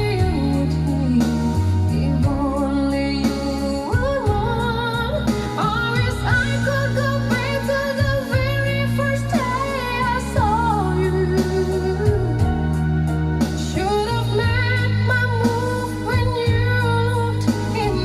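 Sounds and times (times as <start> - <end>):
steady drum beat: 0.0 - 18.0
sustained bass notes: 0.0 - 18.0
vocal with vibrato: 0.0 - 18.0.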